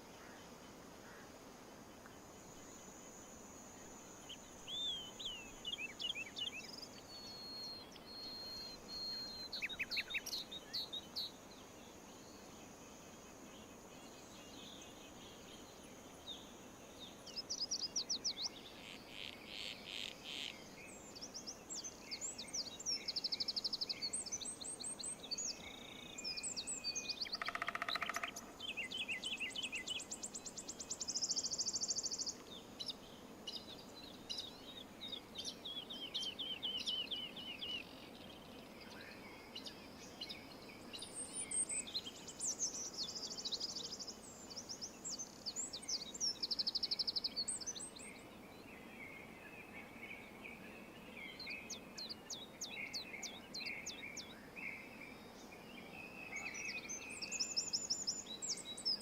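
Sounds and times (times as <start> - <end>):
small birds chirping: 1.8 - 59.0.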